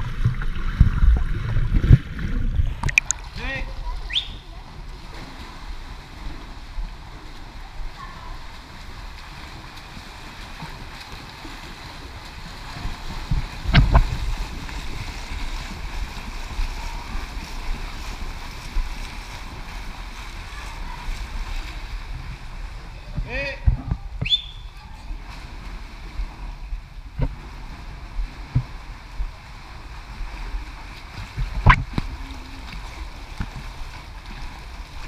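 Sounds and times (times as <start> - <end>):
swimmers splashing water: 0.0 - 35.0.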